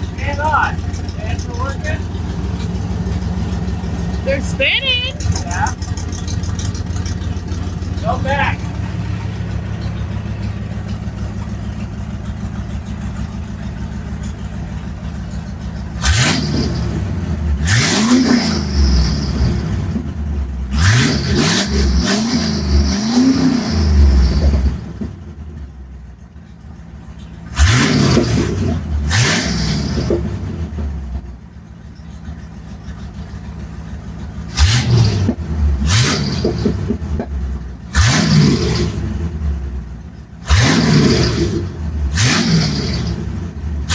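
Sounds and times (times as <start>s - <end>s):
truck engine idling and revving: 0.0s - 43.9s.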